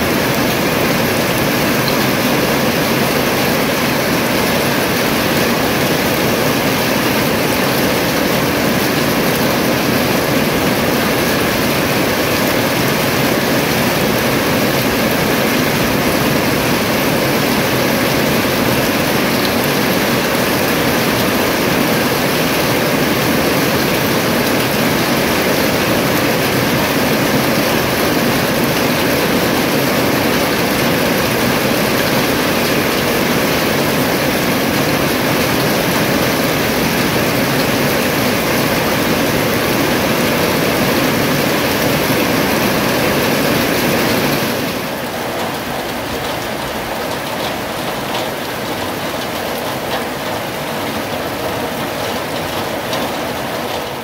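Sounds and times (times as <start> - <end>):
steady rain: 0.0 - 54.0
water dripping off roof edge: 0.1 - 54.0.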